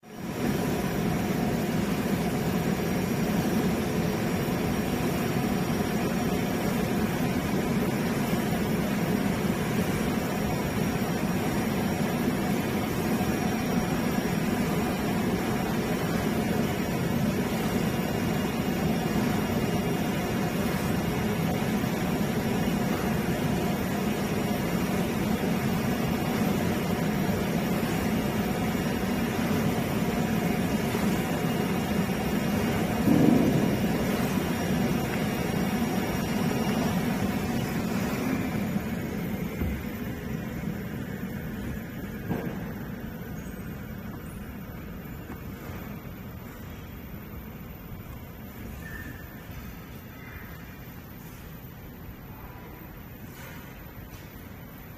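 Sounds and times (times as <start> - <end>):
cutting machine hum with hiss: 0.0 - 46.2.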